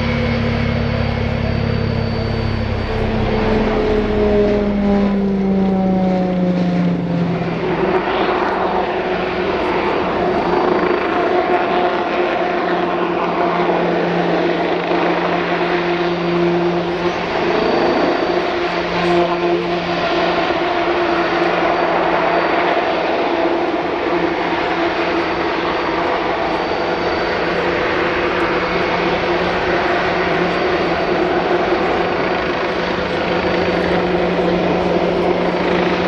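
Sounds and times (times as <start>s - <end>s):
helicopter flying by: 0.0s - 36.0s.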